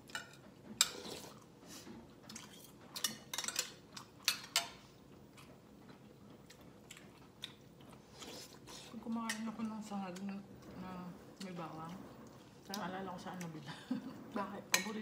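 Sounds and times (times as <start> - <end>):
soft eating sounds: 0.0 - 15.0.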